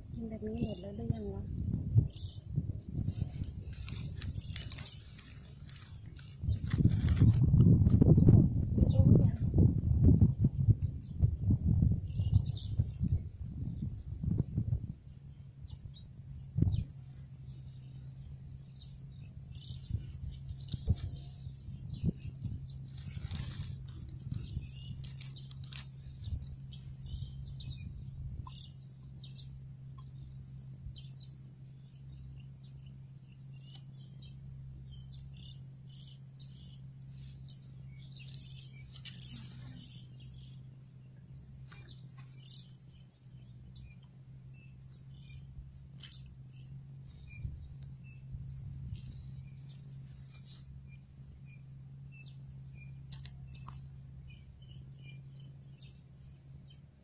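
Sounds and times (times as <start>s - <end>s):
steady low hum: 0.0s - 57.0s
birds chirping: 0.1s - 9.6s, 10.5s - 57.0s.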